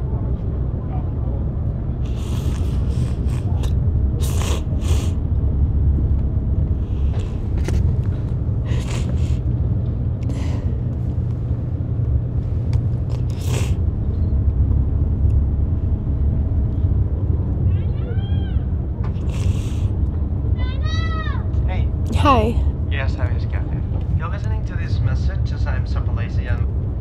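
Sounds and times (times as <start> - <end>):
car road rumble from inside: 0.0 - 27.0.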